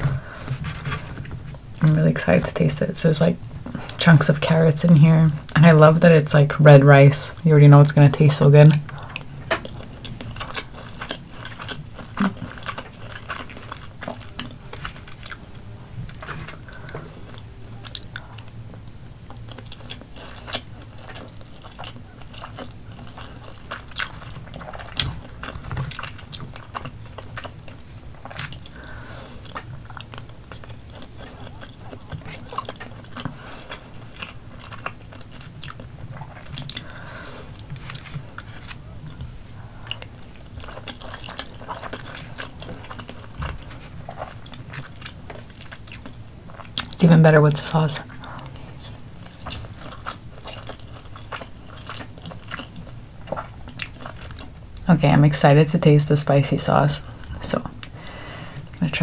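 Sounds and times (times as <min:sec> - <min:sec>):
chewing and mouth sounds: 0:07.3 - 0:54.9.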